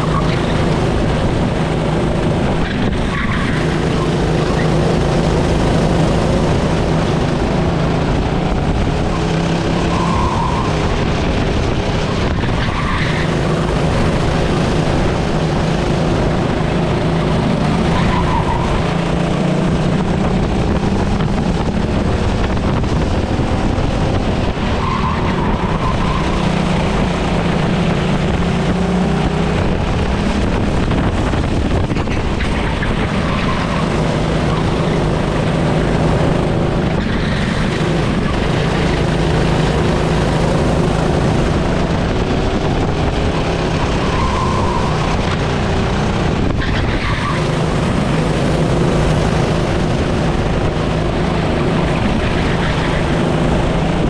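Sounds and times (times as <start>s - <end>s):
race car engine droning: 0.0s - 54.0s
tyre and road noise: 0.0s - 54.0s.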